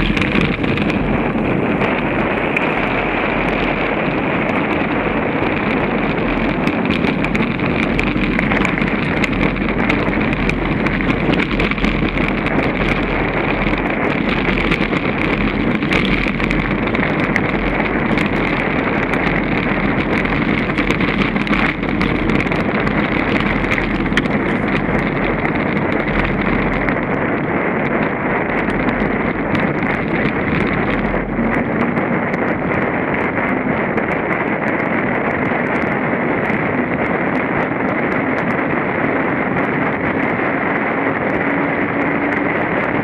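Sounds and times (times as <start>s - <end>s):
bike tyres rumbling on gravel: 0.0s - 43.0s
rattles and clicks from bike: 0.0s - 43.0s
wind buffeting microphone: 0.0s - 43.0s.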